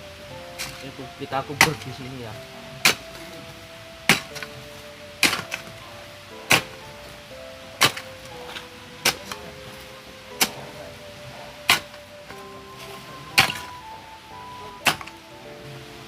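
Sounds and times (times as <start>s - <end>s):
background music with held notes: 0.0s - 16.0s
digging tool striking soil: 0.5s - 2.2s, 2.8s - 3.5s, 4.1s - 13.9s, 14.6s - 15.2s.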